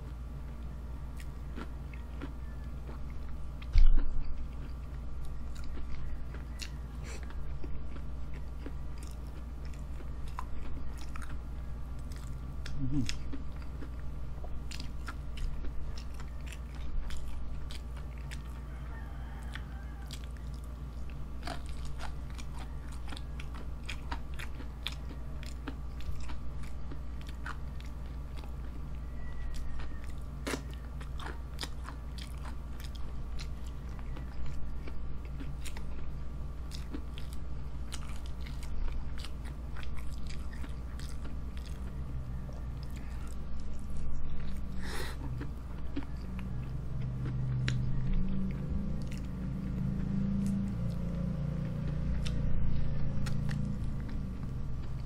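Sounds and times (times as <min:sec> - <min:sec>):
low hum: 0:00.0 - 0:55.0
person chewing crunchy food: 0:00.0 - 0:55.0.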